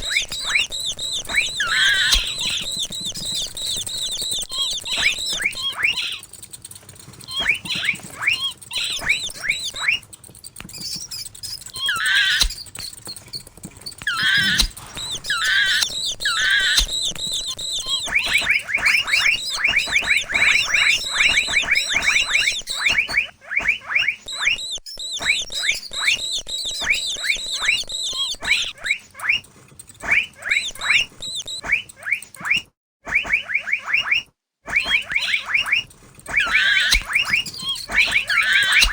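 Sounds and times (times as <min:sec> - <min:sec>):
mouse squeaks: 0:00.0 - 0:38.9.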